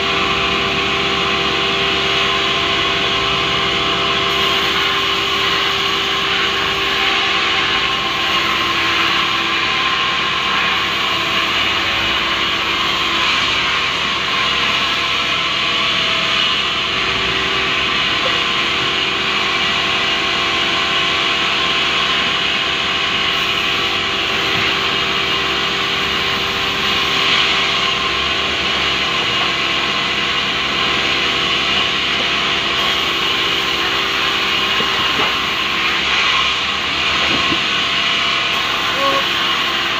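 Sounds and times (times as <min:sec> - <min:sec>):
machine hum: 0:00.0 - 0:39.9
band saw rasping through wood: 0:00.2 - 0:39.9.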